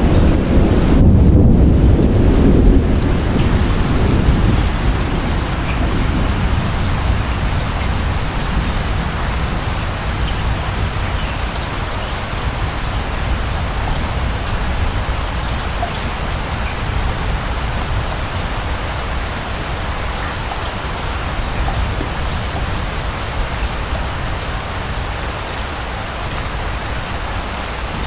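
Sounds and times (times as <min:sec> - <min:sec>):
distant thunder rumble: 0:00.0 - 0:25.2
steady rain: 0:00.0 - 0:28.0.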